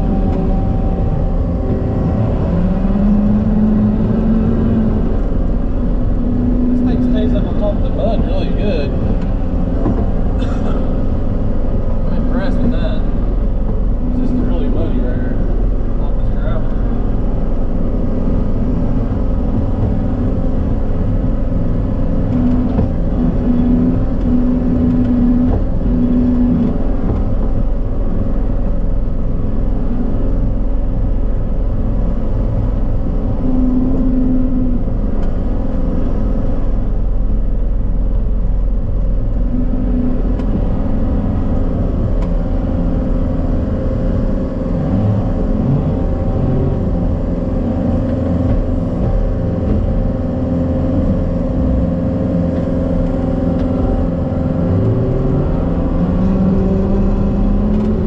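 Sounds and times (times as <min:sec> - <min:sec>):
diesel loader engine running: 0:00.0 - 0:58.0.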